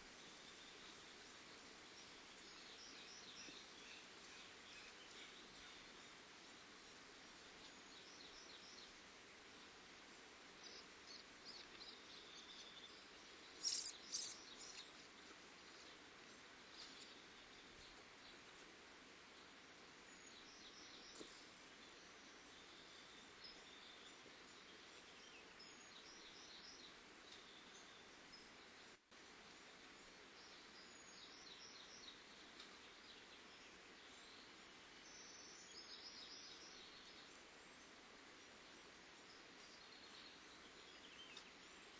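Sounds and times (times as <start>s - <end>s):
faint steady hiss: 0.0s - 41.9s
small birds chirping: 0.0s - 41.9s.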